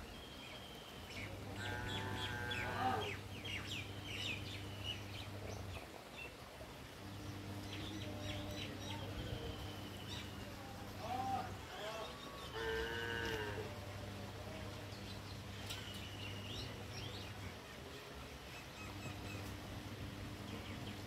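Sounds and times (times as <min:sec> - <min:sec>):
birds chirping and trilling: 0:00.0 - 0:21.0
steady low hum: 0:00.0 - 0:21.0.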